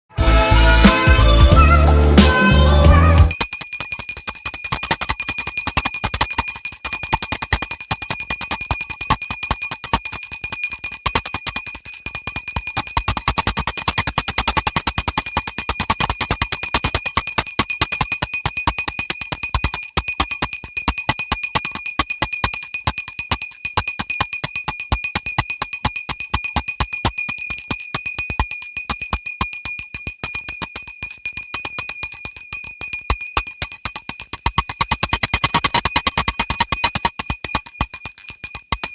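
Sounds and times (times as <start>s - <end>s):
hand bell rung rapidly: 3.3s - 38.9s.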